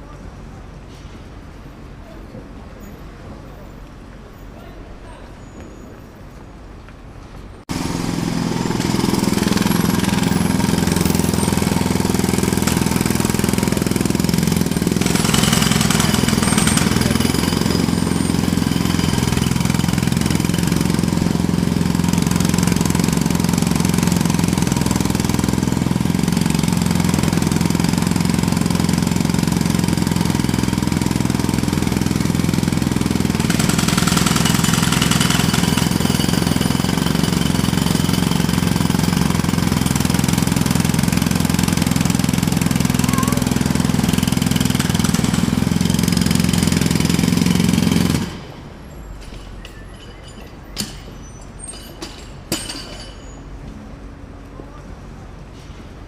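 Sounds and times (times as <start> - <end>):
jackhammer hammering: 7.7 - 48.6, 49.3 - 53.4.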